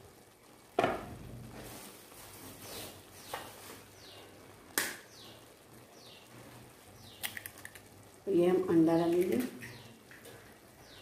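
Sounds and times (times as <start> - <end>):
noodles sizzling in a pan: 0.0 - 11.0.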